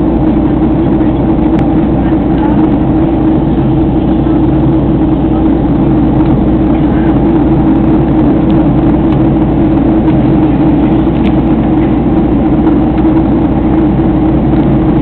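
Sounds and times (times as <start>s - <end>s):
airplane engine drone in cabin: 0.0s - 15.0s.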